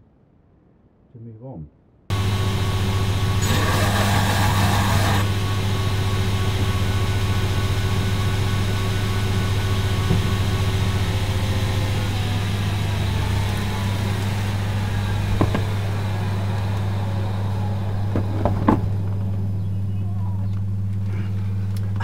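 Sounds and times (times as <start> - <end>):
electric motor humming: 2.1 - 22.0.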